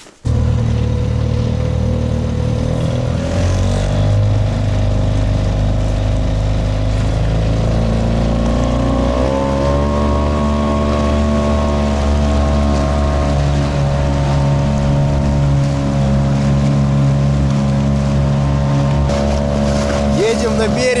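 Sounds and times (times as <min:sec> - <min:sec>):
boat motor running: 0:00.2 - 0:21.0.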